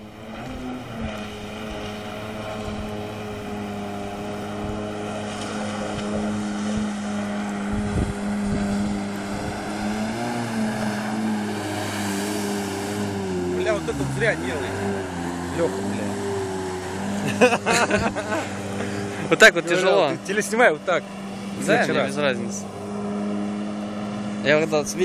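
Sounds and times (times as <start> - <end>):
jet ski engine droning: 0.0 - 25.0.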